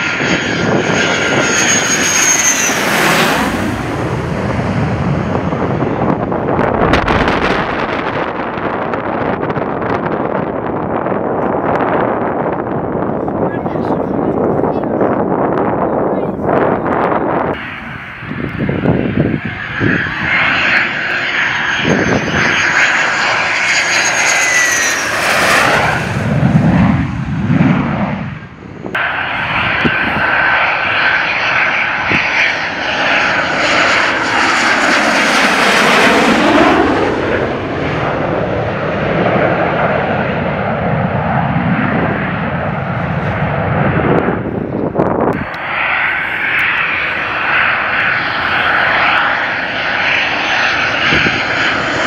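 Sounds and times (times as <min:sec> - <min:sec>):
fighter jet roaring past: 0:00.0 - 0:52.0.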